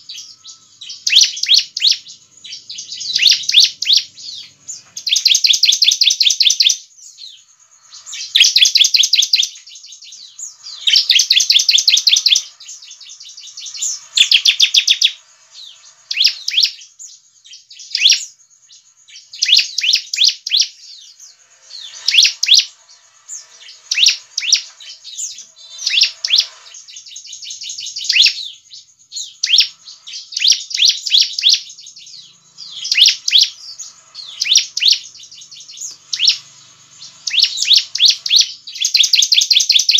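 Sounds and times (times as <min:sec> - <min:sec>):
bird high trilled calls: 0:00.0 - 0:39.9.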